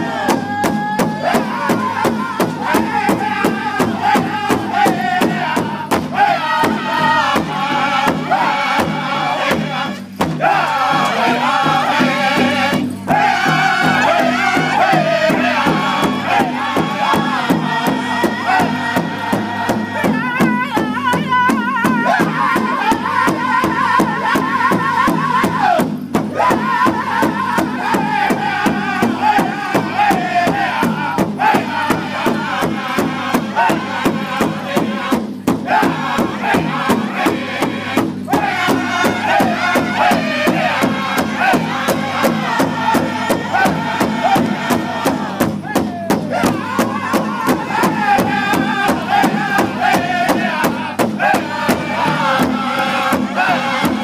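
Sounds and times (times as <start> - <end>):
large drum beat: 0.0 - 54.0
voices singing together: 0.0 - 54.0.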